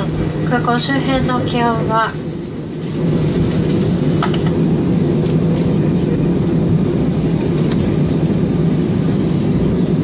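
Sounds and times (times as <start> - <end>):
airliner engines idling while taxiing: 0.0 - 10.0.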